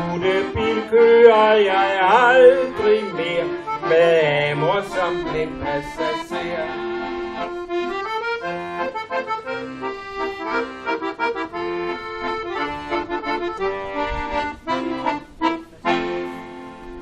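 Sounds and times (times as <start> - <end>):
accordion playing: 0.0 - 17.0.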